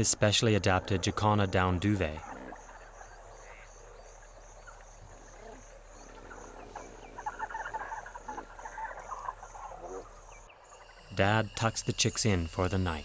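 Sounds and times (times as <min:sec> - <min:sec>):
frogs rattling chorus: 0:00.0 - 0:13.0
insects chirping: 0:00.0 - 0:13.0.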